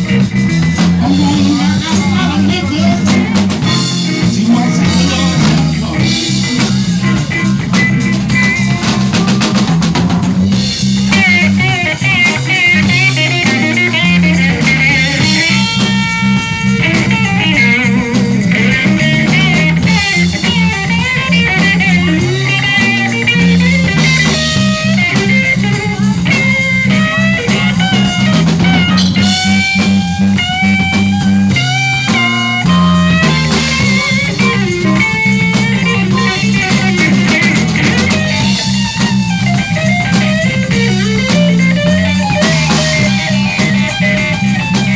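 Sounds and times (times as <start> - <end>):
blues-rock band playing: 0.0 - 44.9
electric guitar solo: 0.0 - 44.9.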